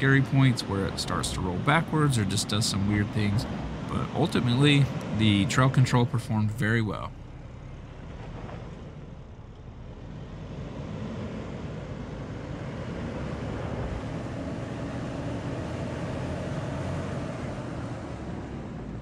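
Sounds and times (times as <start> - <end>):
truck engine running under load: 0.0 - 19.0.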